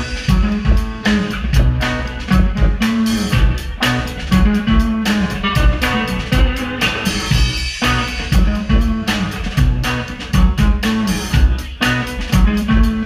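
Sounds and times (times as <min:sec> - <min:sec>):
bass line: 0:00.0 - 0:13.0
drum kit steady beat: 0:00.0 - 0:13.0
electric guitar: 0:00.0 - 0:13.0
keyboards: 0:00.0 - 0:13.0.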